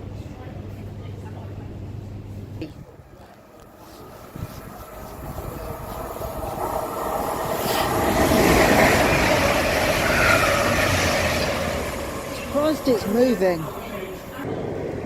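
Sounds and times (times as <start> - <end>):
train passing with rumble: 0.0 - 15.0
train whine: 2.9 - 15.0.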